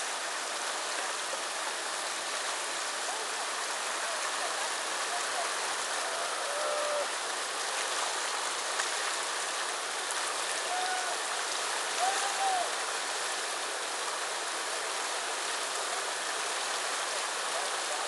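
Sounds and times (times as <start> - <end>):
water rushing over boulders: 0.0 - 18.0.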